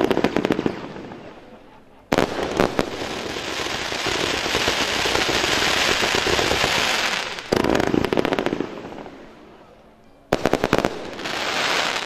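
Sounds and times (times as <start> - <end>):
firework shots: 0.0 - 1.5, 2.1 - 9.3, 10.3 - 12.0
firework crackle: 0.0 - 9.4, 10.3 - 12.0.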